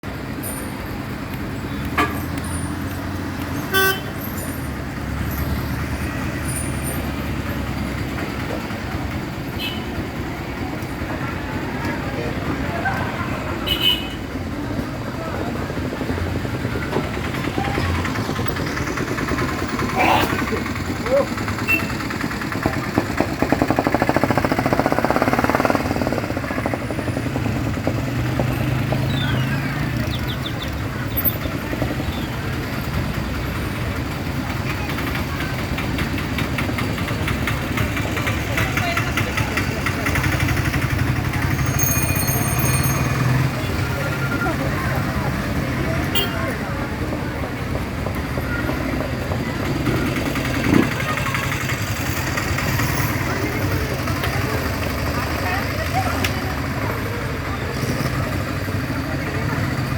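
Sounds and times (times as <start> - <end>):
engine running nearby: 0.0 - 59.9
traffic rumble: 0.0 - 59.9.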